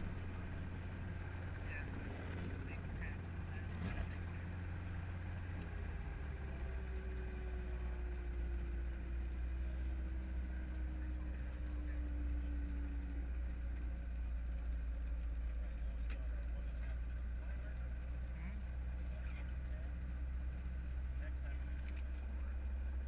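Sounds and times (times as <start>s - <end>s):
faint falling whine: 0.0s - 23.0s
helicopter engine and rotor drone: 0.0s - 23.0s.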